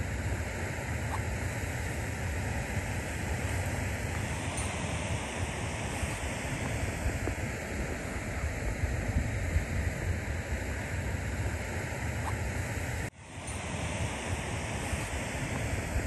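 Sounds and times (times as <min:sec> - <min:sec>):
wind gusts buffeting microphone: 0:00.0 - 0:16.0.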